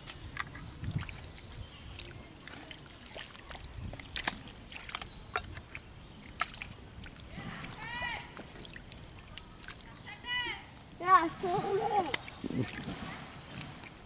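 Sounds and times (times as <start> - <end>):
hands sloshing in muddy water: 0.0 - 10.0, 11.4 - 14.0
wet squelching clicks: 0.0 - 10.0, 12.0 - 14.0.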